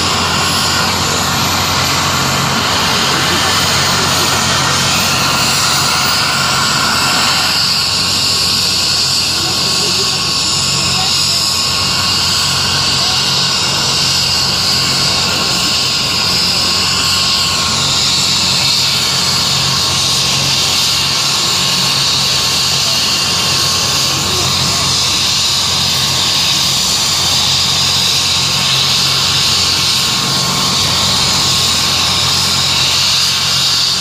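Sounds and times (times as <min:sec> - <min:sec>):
helicopter turbine whine: 0:00.0 - 0:34.0.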